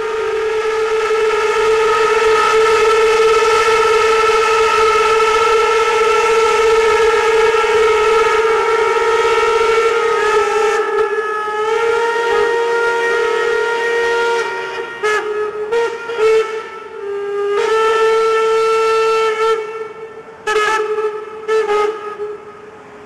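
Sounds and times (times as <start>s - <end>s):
steam locomotive whistles: 0.0s - 23.0s.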